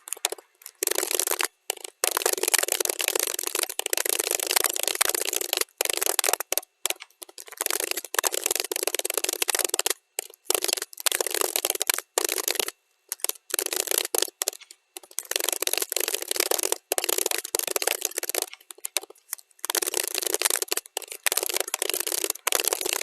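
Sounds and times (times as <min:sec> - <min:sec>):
fast keyboard typing: 0:00.0 - 0:23.0.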